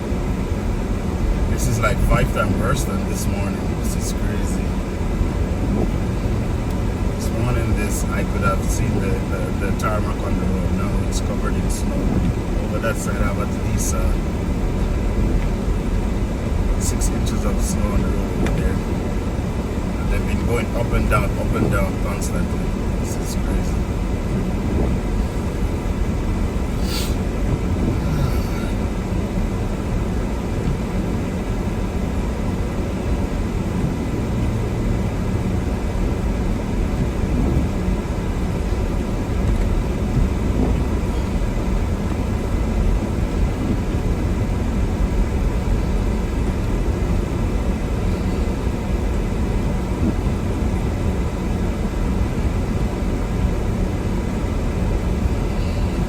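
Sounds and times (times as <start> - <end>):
car driving on snowy road: 0.0 - 56.0.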